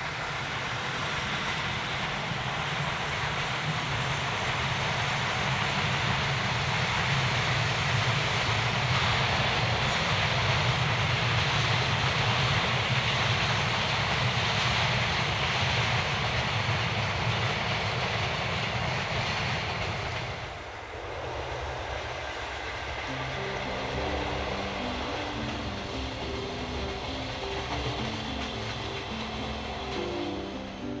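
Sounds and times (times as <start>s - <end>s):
freight train passing: 0.0s - 31.0s.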